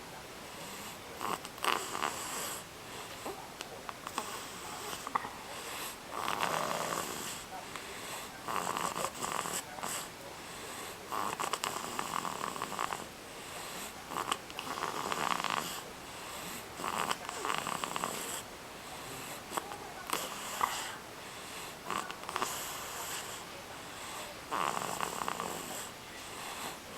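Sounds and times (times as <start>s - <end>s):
baby snoring: 0.6s - 3.4s, 4.0s - 26.9s.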